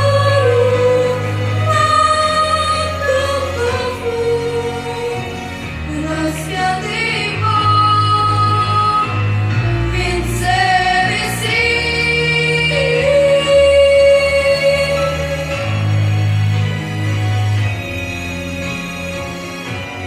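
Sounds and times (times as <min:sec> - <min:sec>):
slow music with held notes: 0:00.0 - 0:20.0.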